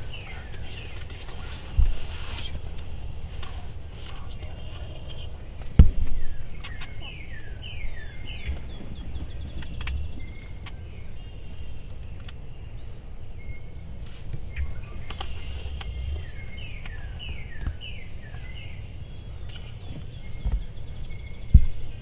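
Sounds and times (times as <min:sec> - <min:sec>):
low rumble: 0:00.0 - 0:22.0
small birds chirping and trilling: 0:00.0 - 0:22.0.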